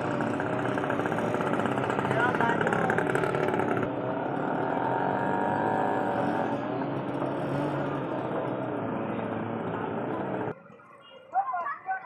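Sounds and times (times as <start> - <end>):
dense road traffic: 0.0 - 12.0.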